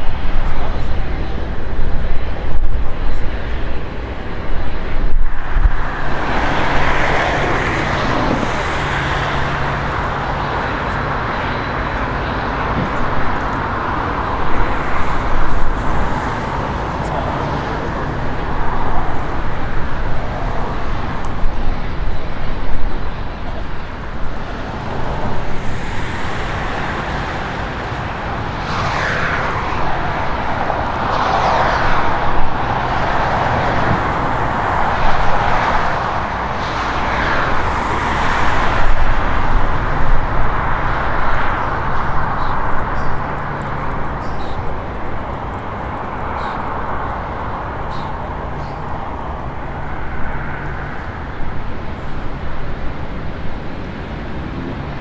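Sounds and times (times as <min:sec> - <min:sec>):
jet aircraft rumble: 0:00.0 - 0:55.0
road traffic: 0:00.0 - 0:55.0
wind buffeting microphone: 0:00.0 - 0:55.0.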